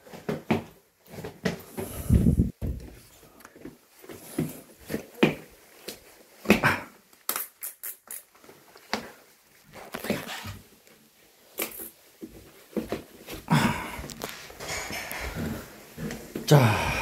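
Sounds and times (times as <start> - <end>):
knocks rustles and shuffles: 0.0 - 7.2, 8.3 - 17.0.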